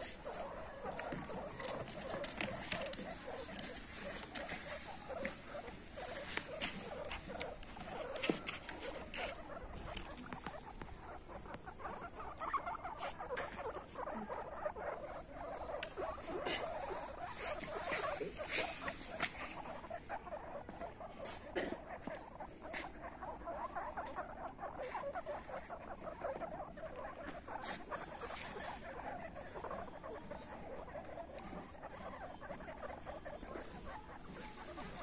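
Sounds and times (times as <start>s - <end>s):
guinea pigs squeaking and chirping: 0.0s - 35.0s.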